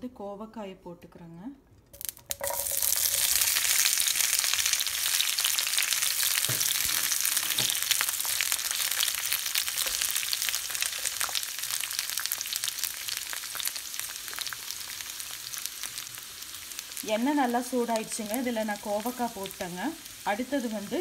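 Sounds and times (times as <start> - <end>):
vegetables sizzling in hot oil: 2.0 - 21.0.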